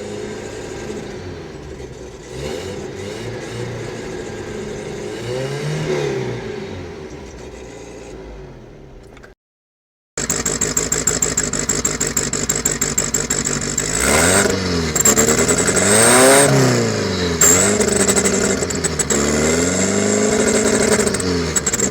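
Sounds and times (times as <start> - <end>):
engine idling and revving: 0.0 - 9.4, 10.2 - 21.9.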